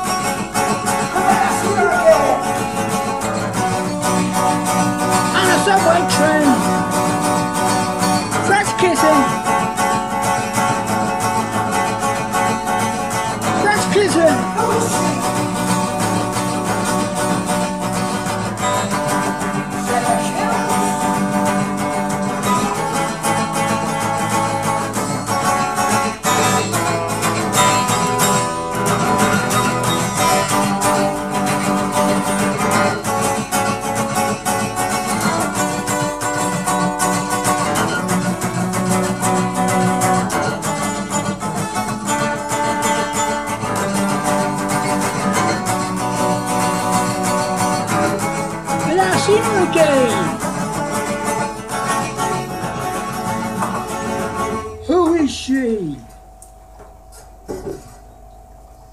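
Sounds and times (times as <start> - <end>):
acoustic guitar strumming chords: 0.0 - 58.9.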